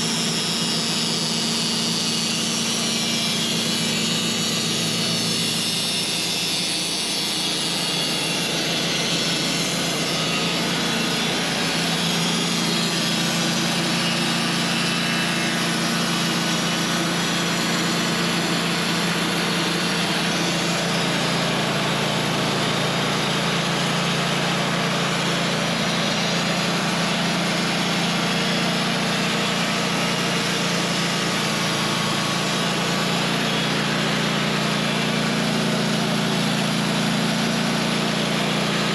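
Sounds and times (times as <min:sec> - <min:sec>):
engine drone: 0:00.0 - 0:38.9
saw blade rushing through wood: 0:00.0 - 0:38.9.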